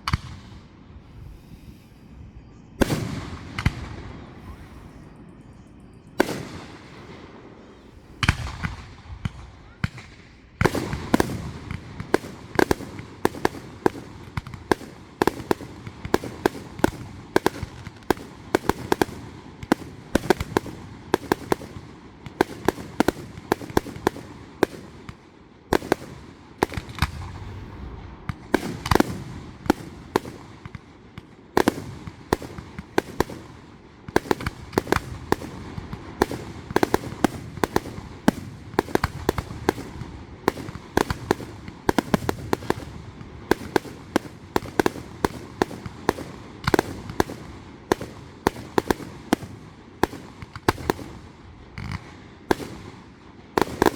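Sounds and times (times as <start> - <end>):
fireworks bangs and pops: 0.0 - 0.8, 2.8 - 5.0, 6.2 - 53.9.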